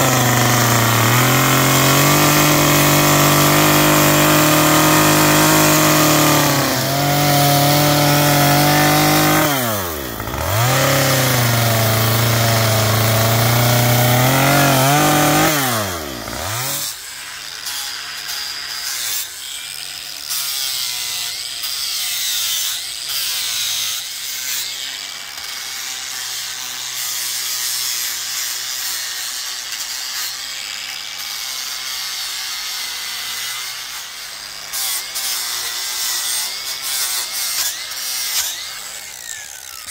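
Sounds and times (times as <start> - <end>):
angle grinder sanding wood: 0.0 - 39.9
chainsaw cutting wood: 0.0 - 39.9.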